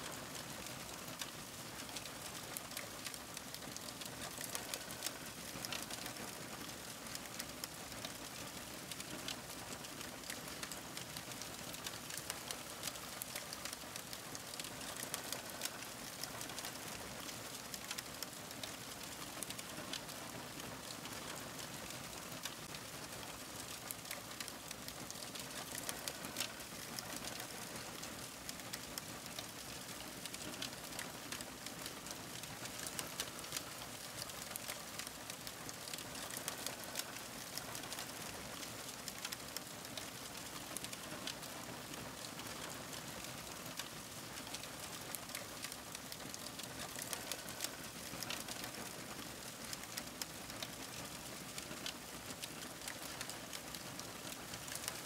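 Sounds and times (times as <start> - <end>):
soft steady hiss: 0.0 - 55.0
wood fire crackling: 0.0 - 55.0.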